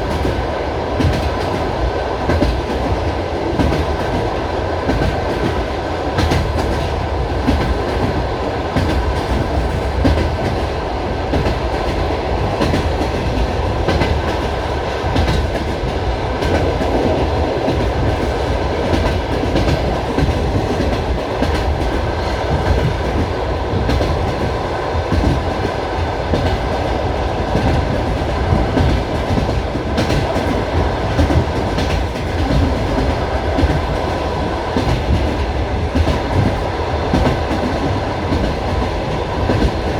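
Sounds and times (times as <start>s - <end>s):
train carriage rumble: 0.0s - 39.9s
train wheels clickety-clack: 0.0s - 39.9s.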